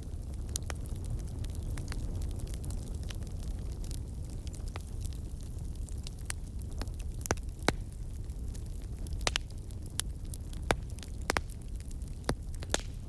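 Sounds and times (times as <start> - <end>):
low rumble of burning logs: 0.0 - 13.0
wood fire crackling: 0.0 - 13.0.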